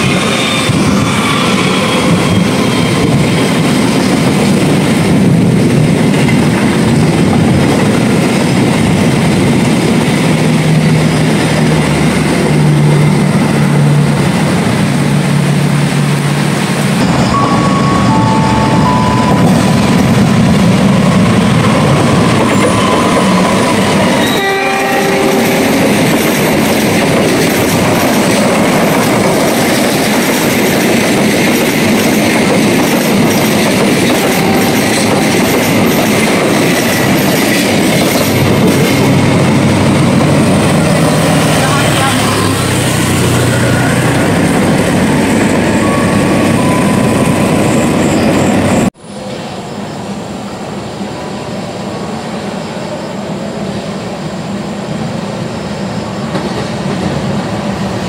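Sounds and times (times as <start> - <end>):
train rumbling across a bridge: 0.0 - 58.0.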